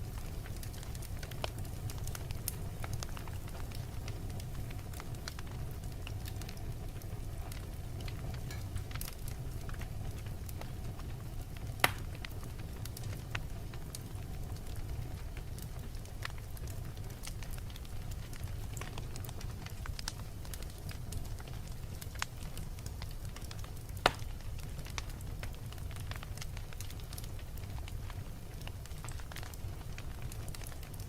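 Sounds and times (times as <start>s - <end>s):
fire crackling and popping: 0.0s - 31.0s
low fire rumble: 0.0s - 31.0s.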